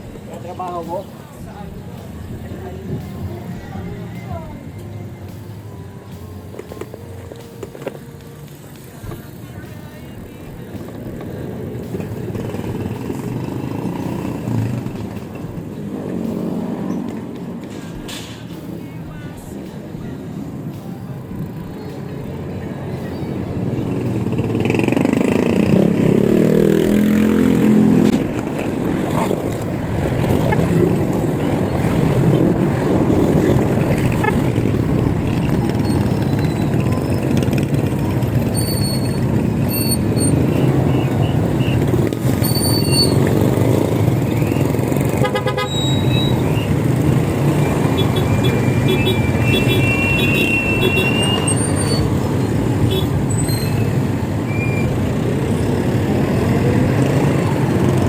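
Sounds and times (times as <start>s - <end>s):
nearby motor vehicle: 0.0s - 58.0s
road rumble: 0.0s - 58.0s.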